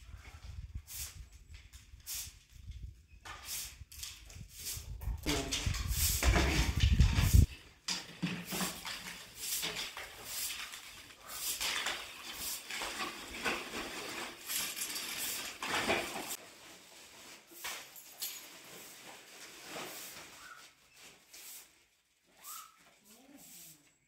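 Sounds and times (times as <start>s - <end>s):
broom sweeping stone floor: 0.5s - 24.0s.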